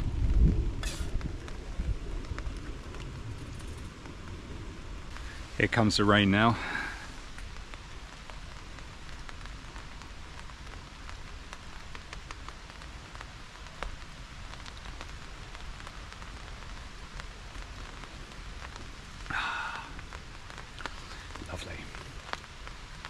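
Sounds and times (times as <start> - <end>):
rain on a tarp: 0.0 - 23.0.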